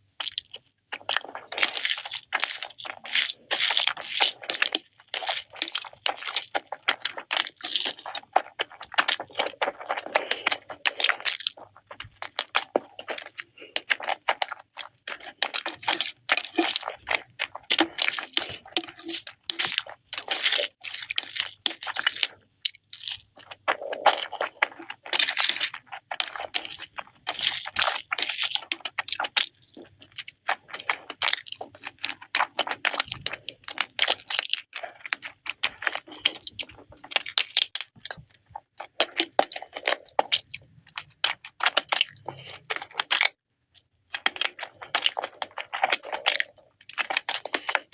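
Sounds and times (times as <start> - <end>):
crunching and chewing crisp food: 0.0 - 47.9.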